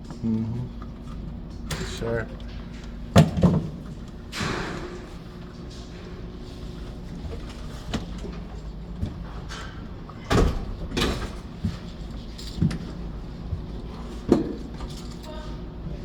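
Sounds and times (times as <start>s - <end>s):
knocks and clatters of electrical boxes: 0.0s - 16.0s.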